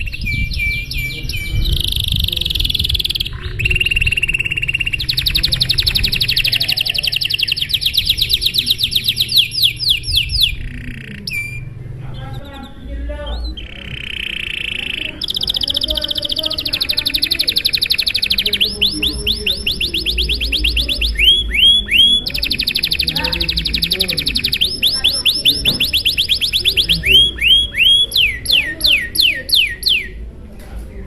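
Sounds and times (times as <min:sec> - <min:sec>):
canary singing trills: 0:00.0 - 0:30.3.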